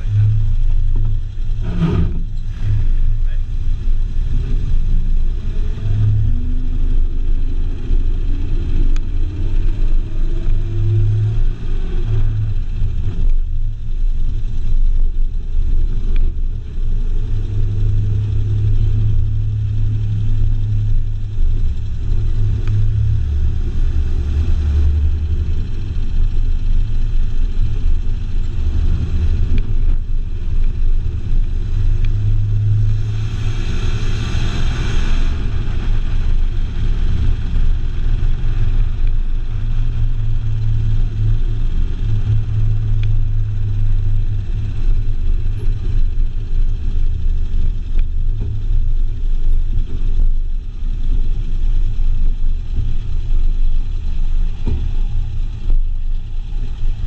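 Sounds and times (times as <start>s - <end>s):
car engine rumble: 0.0s - 57.0s
road noise: 0.0s - 57.0s.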